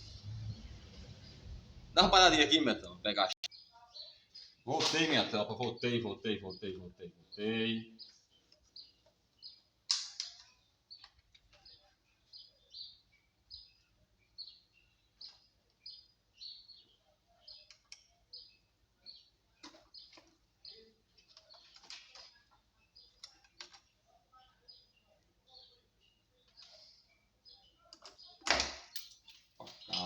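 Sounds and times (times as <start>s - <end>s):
small bird chirping: 3.4s - 30.0s.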